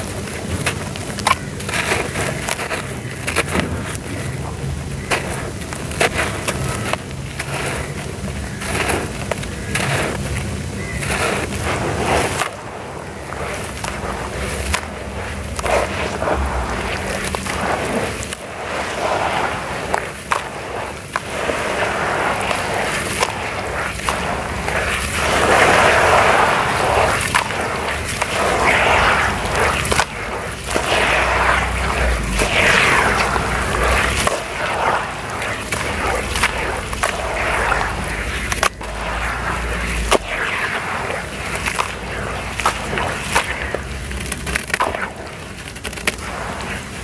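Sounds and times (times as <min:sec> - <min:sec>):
hands squelching wet mud: 0:00.0 - 0:47.0.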